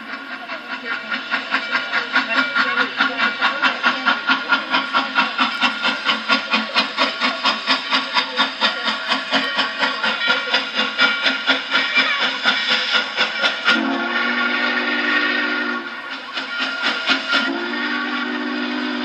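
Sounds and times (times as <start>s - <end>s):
hissing steam: 0.0s - 19.0s
steam locomotive chuffing: 0.0s - 19.0s.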